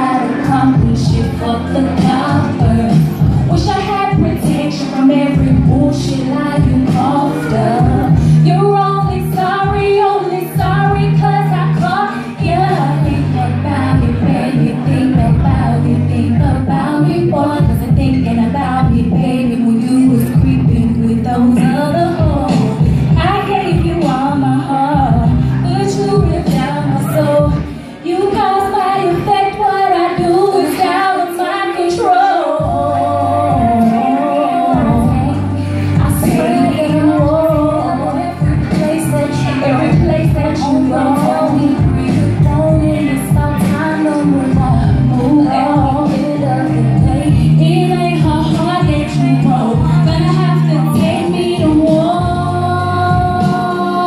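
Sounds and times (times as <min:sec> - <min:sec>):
backing track with deep bass: 0:00.0 - 0:54.0
person singing into microphone: 0:00.0 - 0:54.0.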